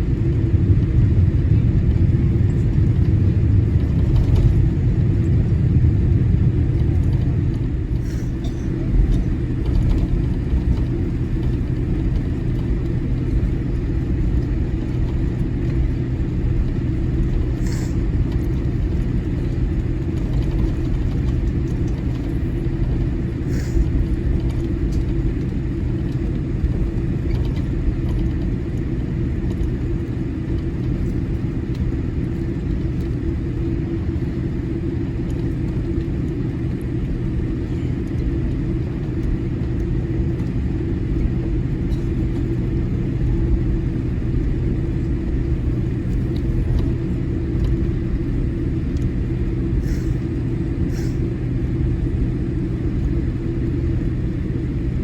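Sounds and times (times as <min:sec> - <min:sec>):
airliner cabin rumble and hum: 0:00.0 - 0:55.0.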